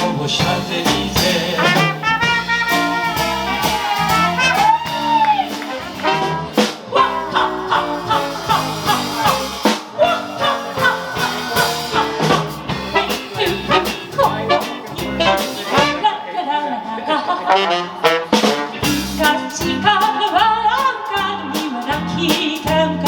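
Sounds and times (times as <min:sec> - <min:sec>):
dixieland jazz band playing: 0:00.0 - 0:16.3, 0:17.4 - 0:23.0.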